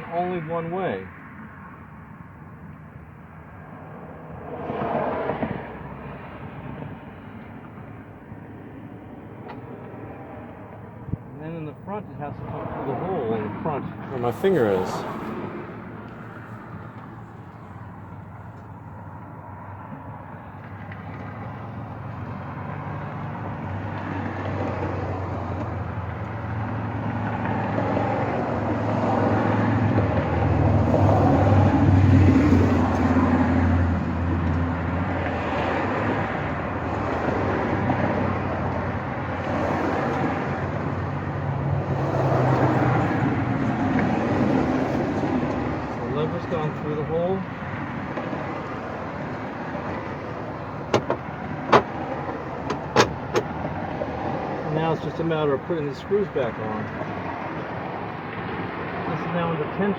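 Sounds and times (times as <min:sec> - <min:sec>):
vehicle engine humming: 0:05.3 - 0:58.9.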